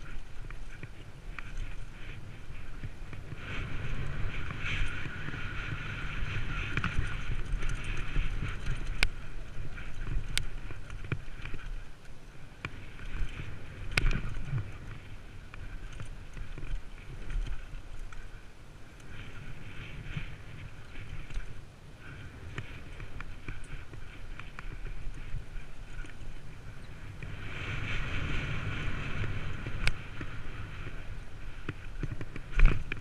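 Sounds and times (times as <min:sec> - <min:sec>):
bike tyres rumbling over stones: 0:00.0 - 0:18.4, 0:19.0 - 0:33.0
wind on microphone: 0:00.0 - 0:33.0.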